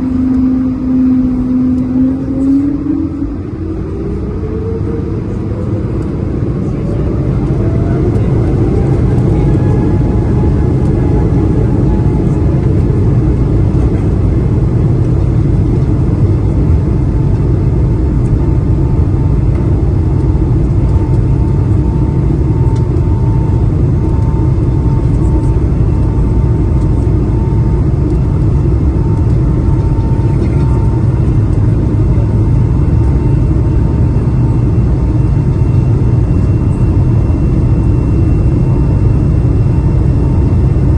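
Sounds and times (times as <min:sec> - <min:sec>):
jet engines spooling up: 0:00.0 - 0:40.9.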